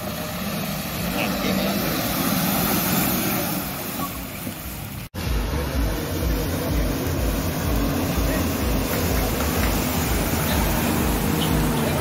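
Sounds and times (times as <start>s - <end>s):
off-road truck engines revving: 0.0s - 12.0s
wheels throwing mud: 0.0s - 12.0s.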